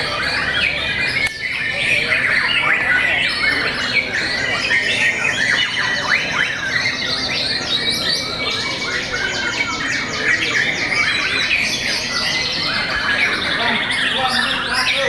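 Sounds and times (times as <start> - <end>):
birds singing whistled phrases: 0.0 - 15.0.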